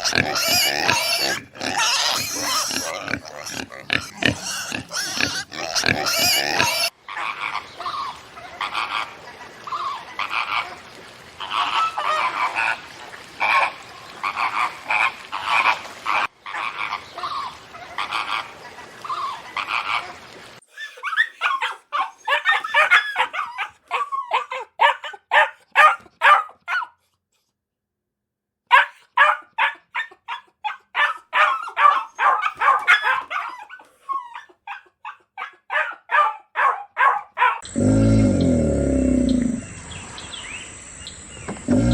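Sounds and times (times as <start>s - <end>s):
farm animals calling: 0.0s - 26.4s, 28.7s - 41.9s.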